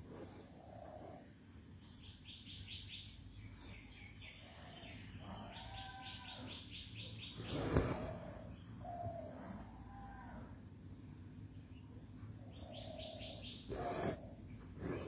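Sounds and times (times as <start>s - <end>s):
lower bird calls: 0.1s - 10.7s, 11.8s - 15.0s
birds chirping: 0.2s - 10.5s, 11.2s - 15.0s.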